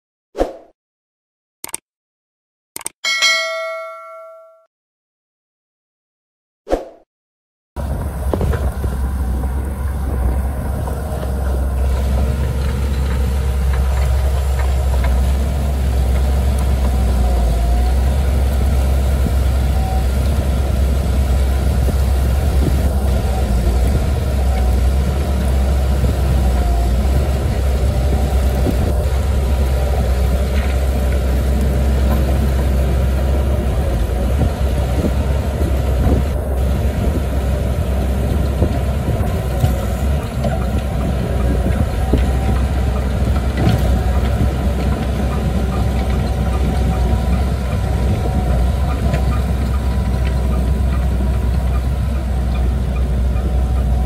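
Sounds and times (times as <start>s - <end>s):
bulldozer diesel engine running: 7.8s - 54.0s.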